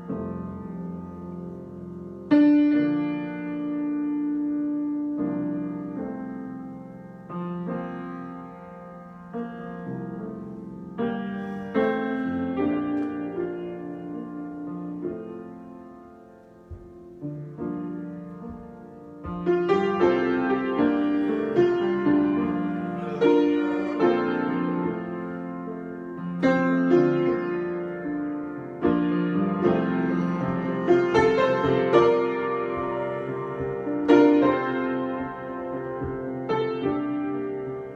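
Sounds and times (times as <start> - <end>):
solo piano: 0.0 - 37.9.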